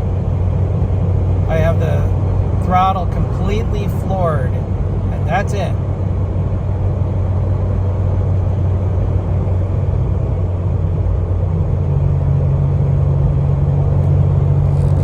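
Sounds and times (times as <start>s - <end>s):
car engine droning in cabin: 0.0s - 15.0s.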